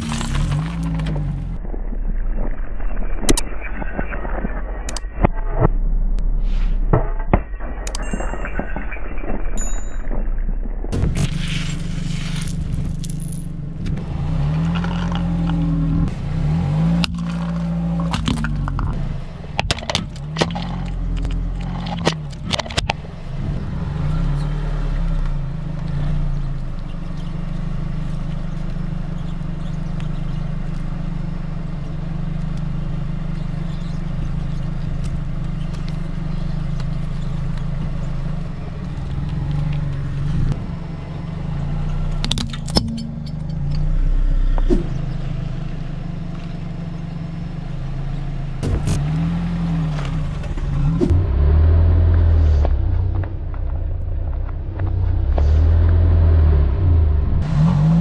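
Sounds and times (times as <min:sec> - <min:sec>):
car engine running low: 0:00.0 - 0:58.0.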